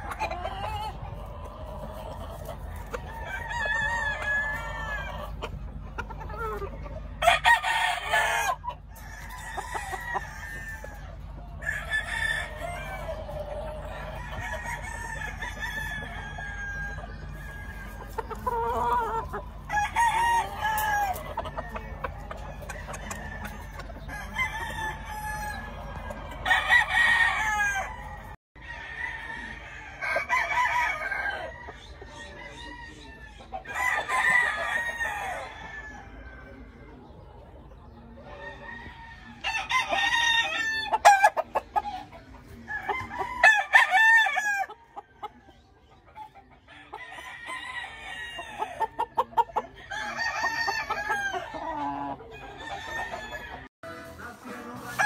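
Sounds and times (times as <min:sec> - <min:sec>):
roosters crowing: 0:00.0 - 0:53.7
chickens clucking: 0:00.0 - 0:55.0.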